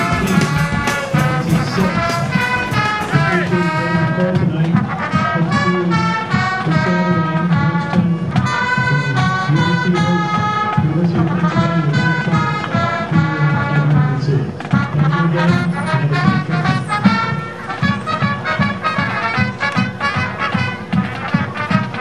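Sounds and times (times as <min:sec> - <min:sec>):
brass music with steady beat: 0:00.0 - 0:22.0.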